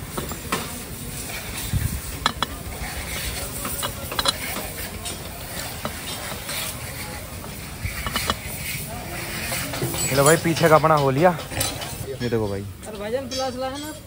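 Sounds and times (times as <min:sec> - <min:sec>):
hand tools clinking on metal: 0:00.1 - 0:06.8, 0:08.0 - 0:08.5, 0:09.6 - 0:14.0.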